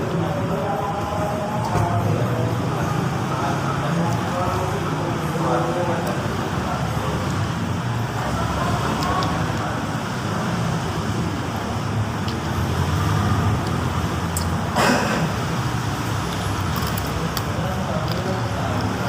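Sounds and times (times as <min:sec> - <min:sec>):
faint voices: 0:00.0 - 0:19.0
road traffic rumble: 0:00.0 - 0:19.0.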